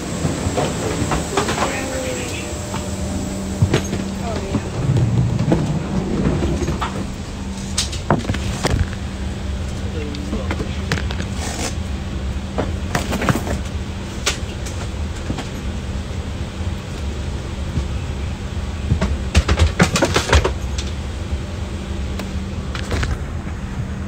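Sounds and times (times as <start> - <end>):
airliner cabin hum: 0.0 - 24.0.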